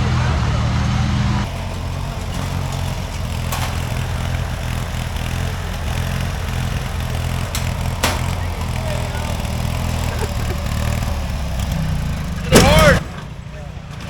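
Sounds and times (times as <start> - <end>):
lawn mower engine idling: 1.4 - 14.0.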